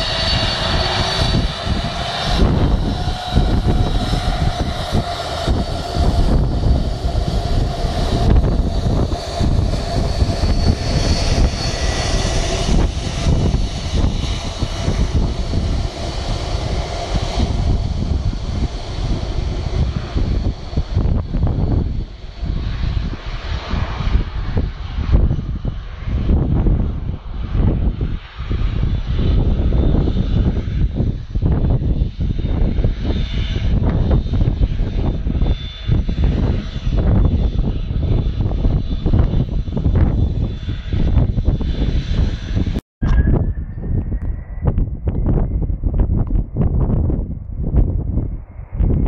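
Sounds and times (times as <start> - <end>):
jet engine whine and rumble: 0.0 - 49.0.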